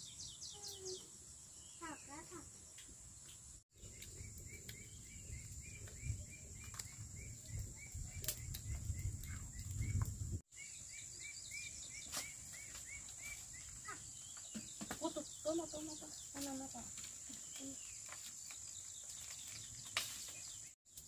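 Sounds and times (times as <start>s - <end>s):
bird chirping: 0.0s - 20.8s.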